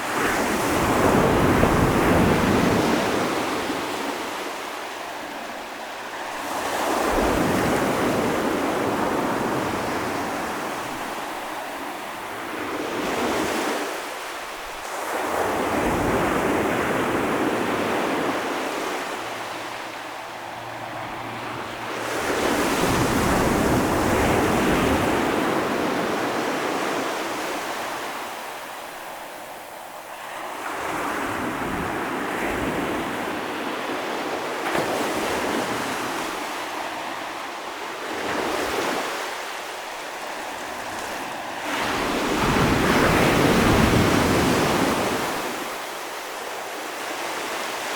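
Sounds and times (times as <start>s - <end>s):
ocean waves breaking: 0.0s - 47.9s.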